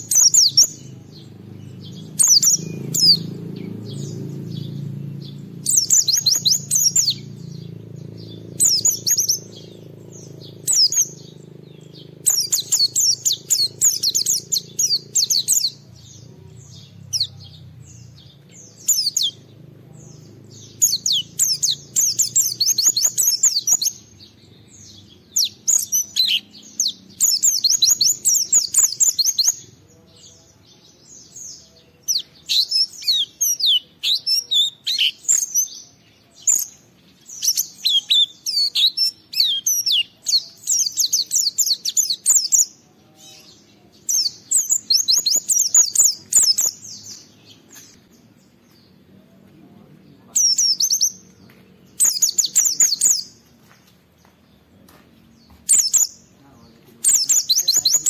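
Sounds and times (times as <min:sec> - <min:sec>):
bird twittering: 0:00.0 - 0:29.8, 0:31.3 - 0:49.0, 0:50.2 - 0:53.5, 0:55.4 - 0:58.0.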